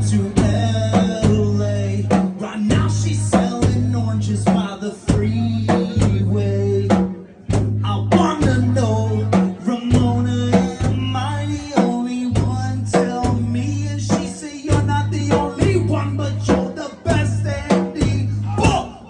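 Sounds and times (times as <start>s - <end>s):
bass line: 0.0s - 19.0s
drum kit: 0.0s - 19.0s
person singing: 0.0s - 19.0s.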